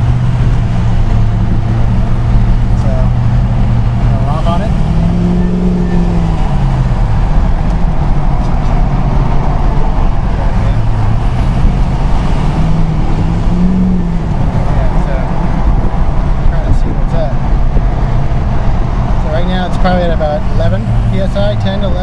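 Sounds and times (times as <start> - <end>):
diesel engine accelerating: 0.0 - 22.0
road noise: 0.0 - 22.0.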